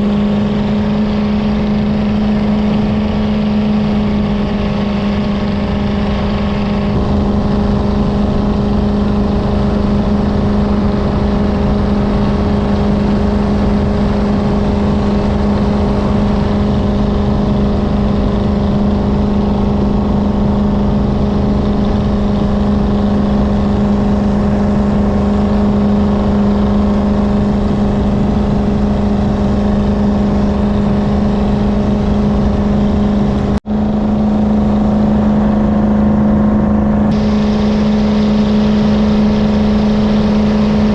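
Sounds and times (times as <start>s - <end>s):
boat engine running: 0.0s - 40.9s
rushing noise: 0.0s - 40.9s.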